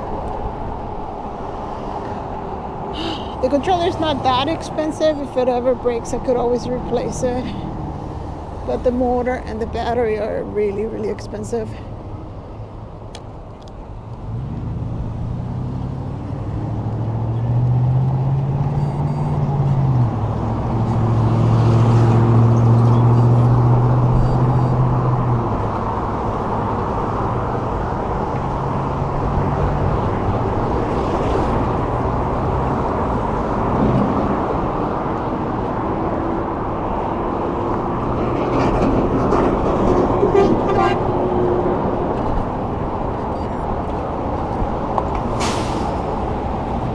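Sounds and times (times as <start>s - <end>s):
deep vehicle hum: 0.0s - 46.9s
road noise: 0.0s - 46.9s.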